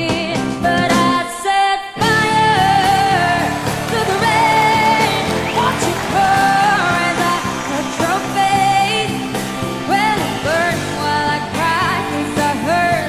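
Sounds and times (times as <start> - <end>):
pop ballad backing track: 0.0 - 1.4, 2.0 - 13.0
woman singing wordless runs: 0.8 - 13.0.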